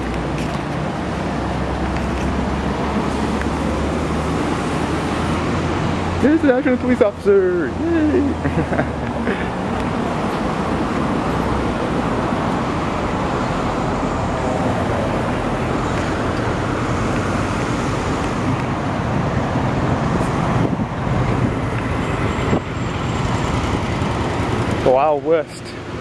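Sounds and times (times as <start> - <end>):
cars driving past: 0.0 - 26.0.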